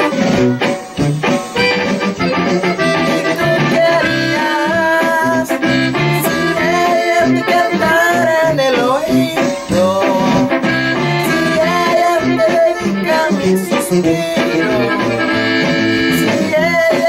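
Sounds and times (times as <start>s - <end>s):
song with singing and instruments: 0.0s - 17.0s.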